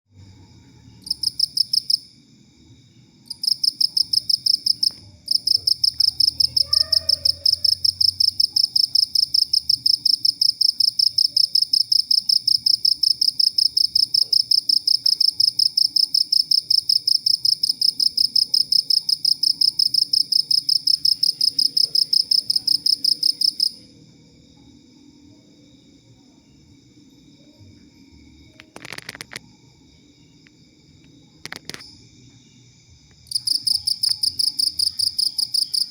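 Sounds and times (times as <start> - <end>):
cricket chirping: 0.1 - 35.9.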